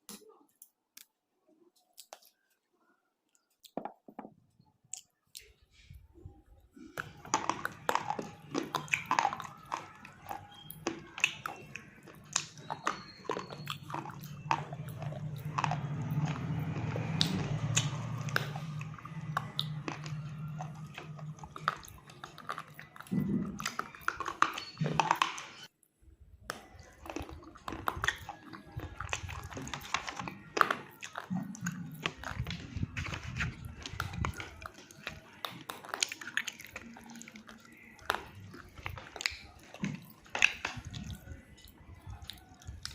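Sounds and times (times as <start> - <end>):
chewing crunchy material: 4.9 - 25.7, 26.4 - 42.9.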